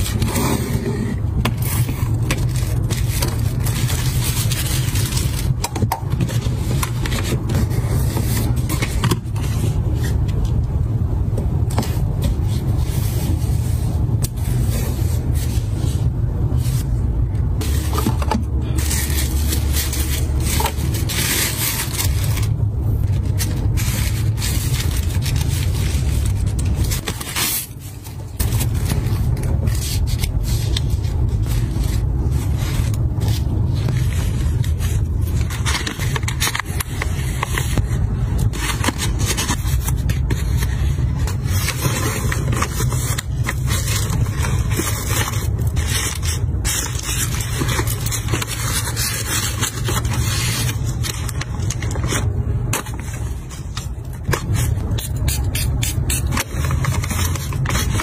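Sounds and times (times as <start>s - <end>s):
paper and cardboard rustling: 0.0s - 58.0s
steady low rumble: 0.0s - 58.0s.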